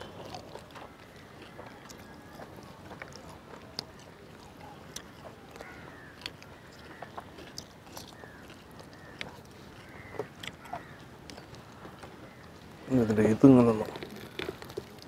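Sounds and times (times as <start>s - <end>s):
person chewing meat: 0.0s - 12.8s, 13.9s - 15.0s
small clicks and crackles: 0.0s - 15.0s.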